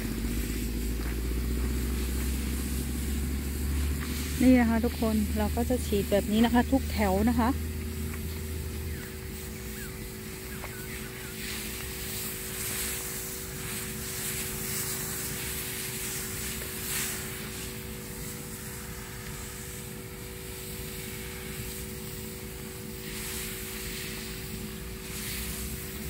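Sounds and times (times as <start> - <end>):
high-pressure spray hissing: 0.0 - 26.0
power sprayer motor humming: 0.0 - 26.0.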